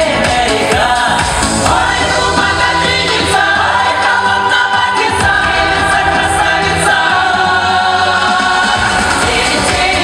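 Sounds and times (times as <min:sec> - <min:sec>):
several voices singing over music: 0:00.0 - 0:10.0.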